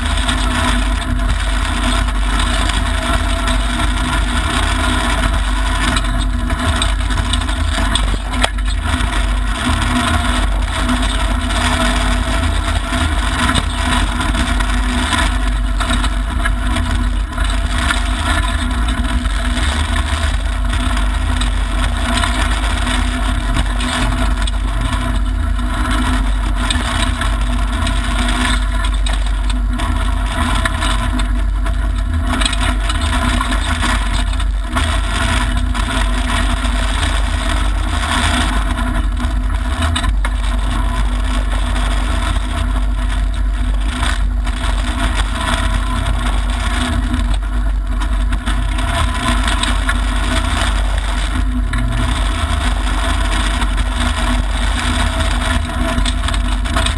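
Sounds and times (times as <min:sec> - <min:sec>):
rally car engine running hard: 0:00.0 - 0:56.9
tyres on gravel: 0:00.0 - 0:56.9.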